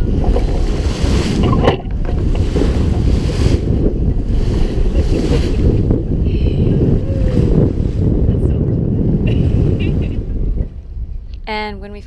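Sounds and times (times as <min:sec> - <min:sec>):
water rushing and splashing: 0:00.0 - 0:10.0
wind buffeting microphone: 0:00.0 - 0:12.0.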